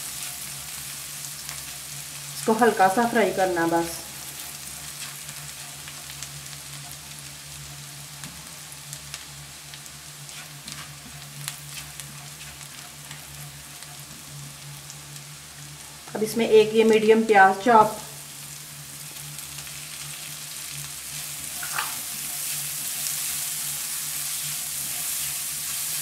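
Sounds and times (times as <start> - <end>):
spatula stirring in a wok: 0.0 - 2.6, 4.2 - 8.3, 8.9 - 15.9, 18.2 - 26.0
garlic sizzling in oil: 0.0 - 26.0.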